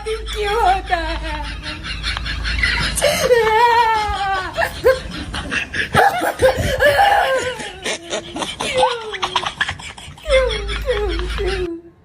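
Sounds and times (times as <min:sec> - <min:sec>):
person laughing loudly: 0:00.0 - 0:11.8.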